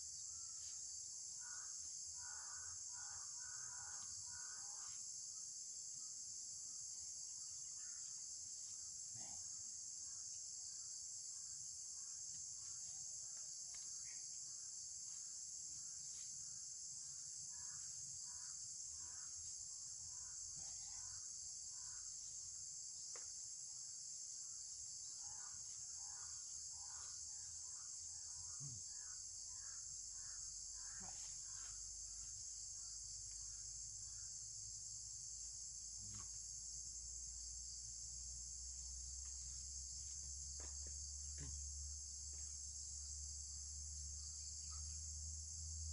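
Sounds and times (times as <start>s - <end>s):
high-pitched insect chorus: 0.0s - 45.9s.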